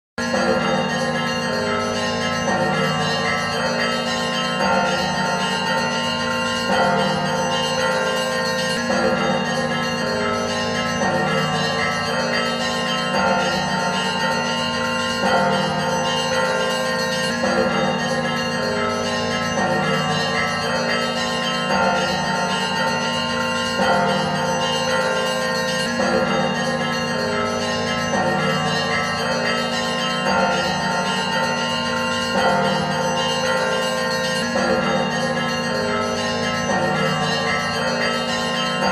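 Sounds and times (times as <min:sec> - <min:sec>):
church bells pealing: 0:00.2 - 0:38.9.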